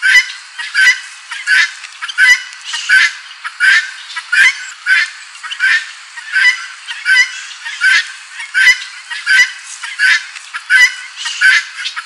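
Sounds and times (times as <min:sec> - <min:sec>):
guineafowl calling: 0:00.0 - 0:12.0.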